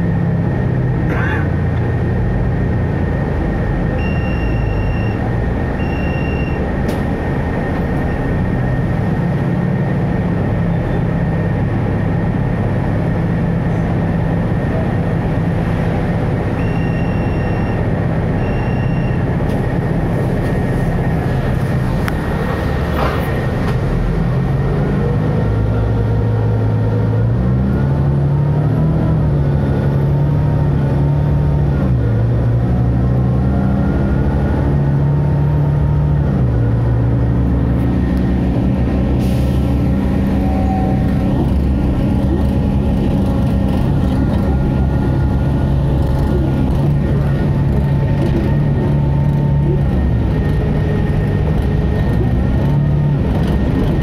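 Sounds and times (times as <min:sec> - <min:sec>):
high transmission whine: 0:00.0 - 0:54.0
bus engine changing gear: 0:00.1 - 0:54.0.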